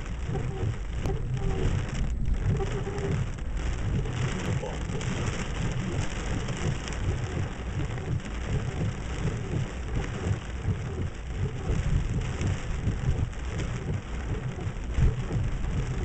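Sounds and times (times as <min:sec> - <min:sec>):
heavy rain falling: 0:00.0 - 0:16.0
rumble of thunder: 0:00.0 - 0:16.0.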